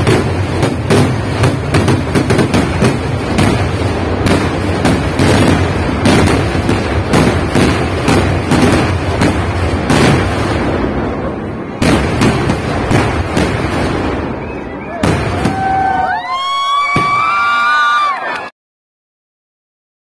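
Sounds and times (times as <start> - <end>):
fireworks bangs and crackles: 0.0 - 17.9.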